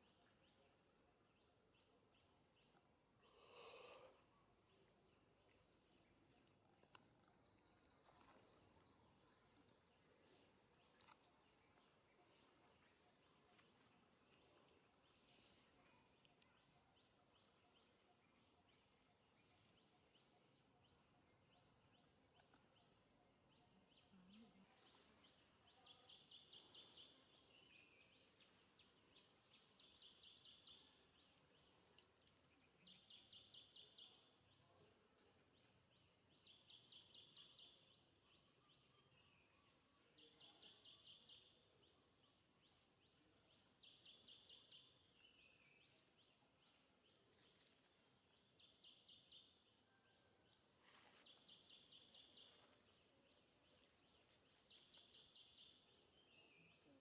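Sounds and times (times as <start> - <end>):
low outdoor hiss: 0.0 - 57.0.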